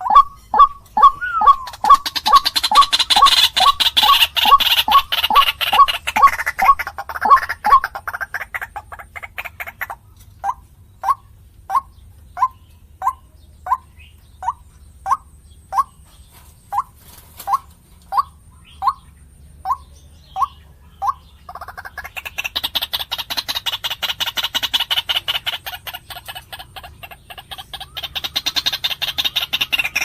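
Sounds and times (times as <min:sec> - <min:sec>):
waterhen calling: 0:00.0 - 0:16.0, 0:16.7 - 0:30.0.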